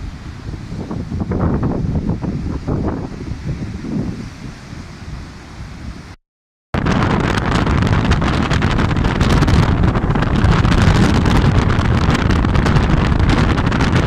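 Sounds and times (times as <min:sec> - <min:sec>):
strong wind buffeting microphone: 0:00.0 - 0:06.2, 0:06.8 - 0:14.0.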